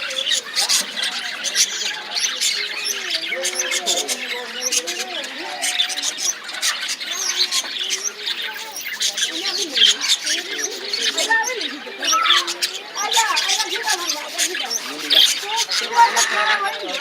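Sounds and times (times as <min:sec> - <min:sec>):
birds squawking and chirping: 0:00.0 - 0:17.0
low wavering bird calls: 0:00.0 - 0:17.0.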